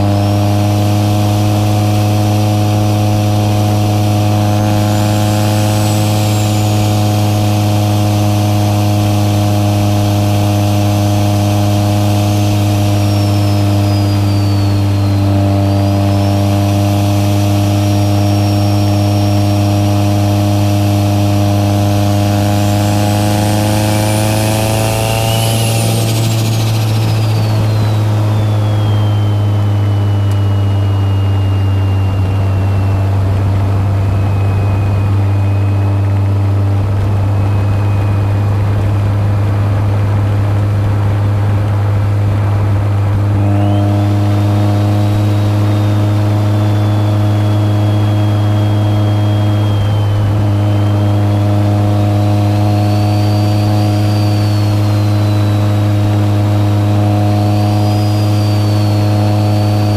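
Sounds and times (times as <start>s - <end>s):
turbo whistle: 0.0s - 39.8s, 43.1s - 59.9s
car engine drone from cabin: 0.0s - 59.9s.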